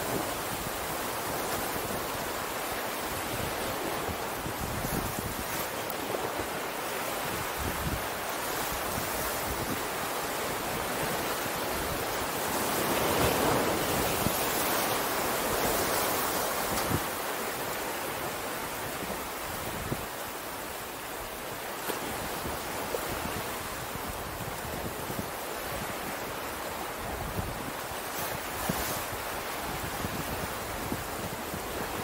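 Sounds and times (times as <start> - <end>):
wind gusting on microphone: 0.0 - 17.6, 22.1 - 32.0
ocean surf washing ashore: 0.0 - 32.0.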